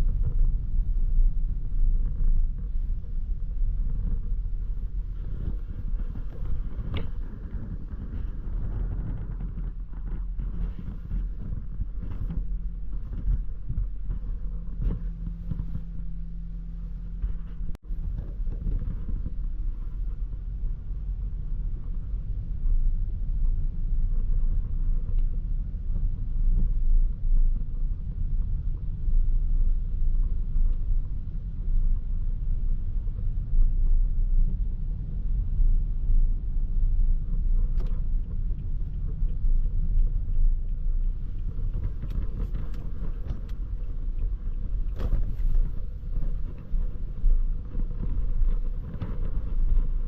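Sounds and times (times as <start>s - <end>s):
low road rumble: 0.0s - 50.0s.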